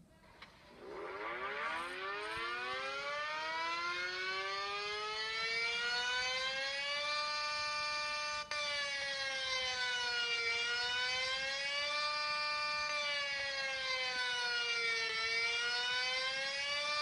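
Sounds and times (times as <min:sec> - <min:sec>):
warning siren winding up: 0:00.4 - 0:17.0.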